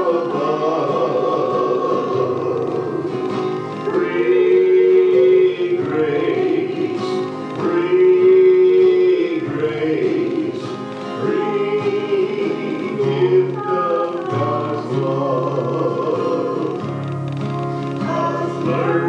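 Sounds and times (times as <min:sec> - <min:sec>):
instrumental accompaniment: 0:00.0 - 0:19.0
people singing gospel song: 0:00.0 - 0:19.0.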